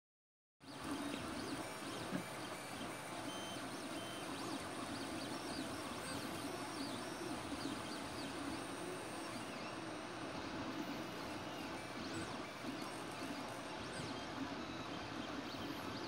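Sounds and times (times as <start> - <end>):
steady whirr: 0.6 - 16.0
stepper motors whining: 0.7 - 16.0.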